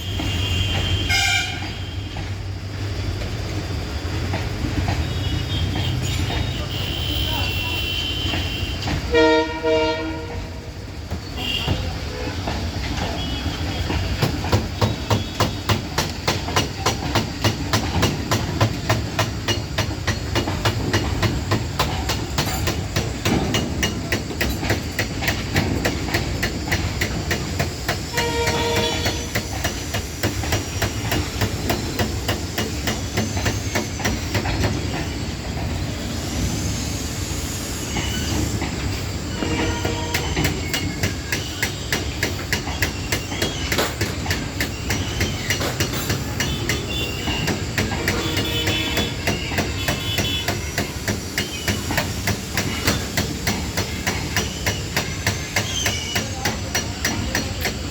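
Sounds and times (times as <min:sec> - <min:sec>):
low train rumble: 0:00.0 - 0:57.9
train wheels clattering: 0:00.0 - 0:57.9.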